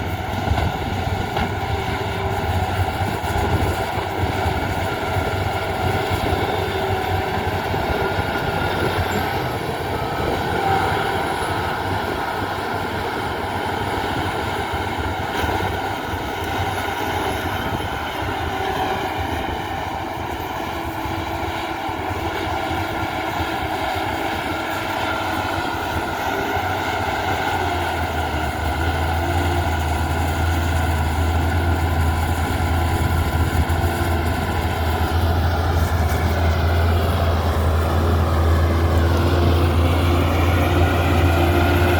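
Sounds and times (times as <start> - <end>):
earthmoving machine diesel engine: 0.0 - 41.9.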